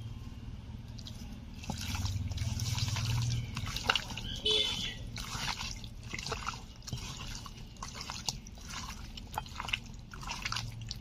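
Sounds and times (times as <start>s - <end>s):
squelching of kneaded chicken: 0.9s - 11.0s.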